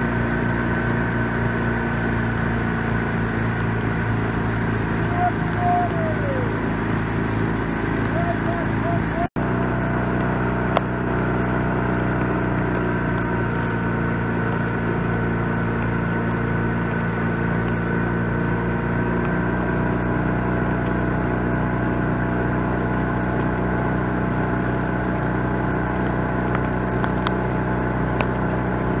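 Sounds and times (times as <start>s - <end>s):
motorboat engine droning: 0.0s - 29.0s.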